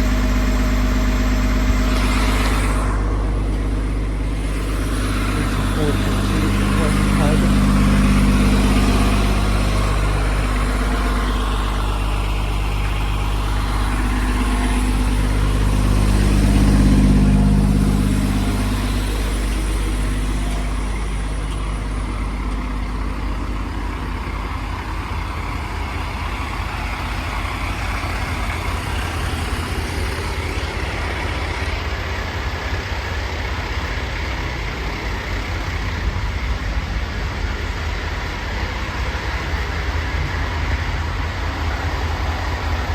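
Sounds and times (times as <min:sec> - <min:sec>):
large vehicle engine idling: 0:00.0 - 0:42.9.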